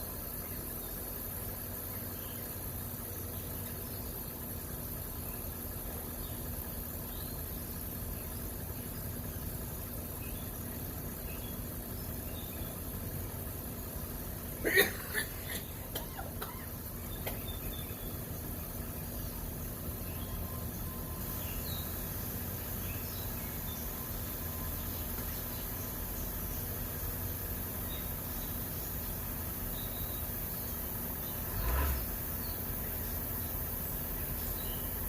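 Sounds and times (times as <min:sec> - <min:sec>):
low background rumble: 0:00.0 - 0:35.0
songbirds chirping: 0:00.0 - 0:35.0.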